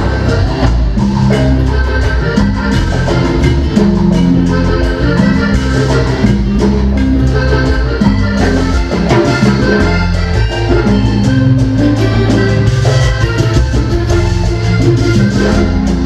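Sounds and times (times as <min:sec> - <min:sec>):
accordion melody: 0:00.0 - 0:16.0
bass: 0:00.0 - 0:16.0
percussion beat: 0:00.0 - 0:16.0.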